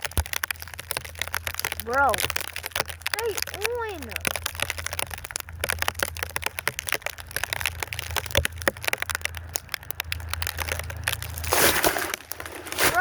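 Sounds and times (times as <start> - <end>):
low rumble: 0.0 - 11.7
snow and ice crackling: 0.0 - 13.0.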